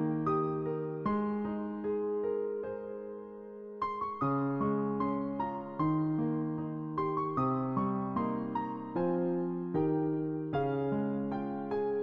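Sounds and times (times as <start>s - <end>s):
slow keyboard melody: 0.0s - 12.0s.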